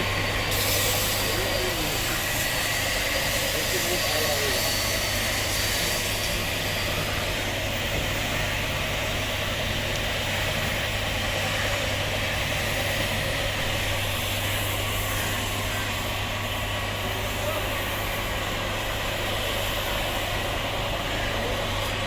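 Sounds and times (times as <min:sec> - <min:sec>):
machine hum with low drone: 0:00.0 - 0:22.0.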